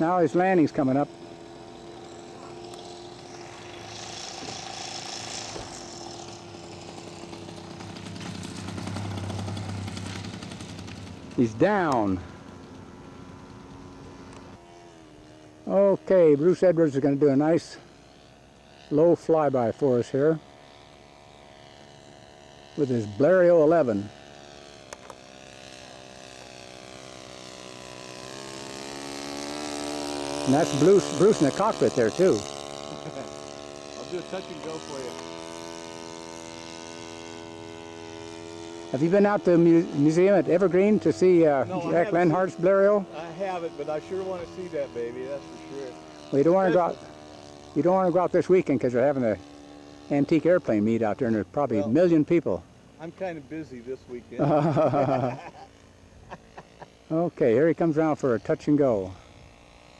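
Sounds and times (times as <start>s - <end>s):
model airplane engine running: 0.0s - 59.9s.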